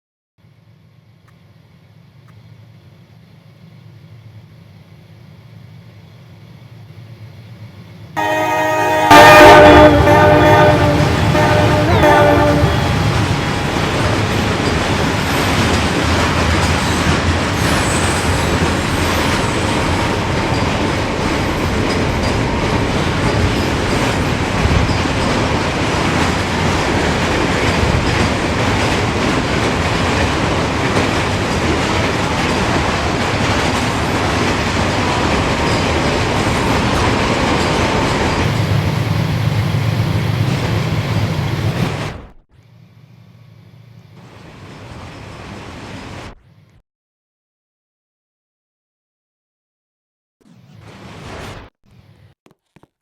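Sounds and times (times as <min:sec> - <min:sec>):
freight train rumbling and rattling: 0:02.5 - 0:42.4, 0:43.7 - 0:46.4.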